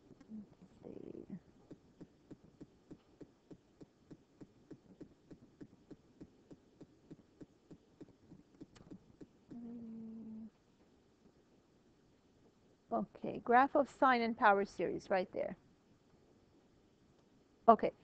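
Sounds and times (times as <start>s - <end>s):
steady hum-like tone: 0.0s - 18.0s.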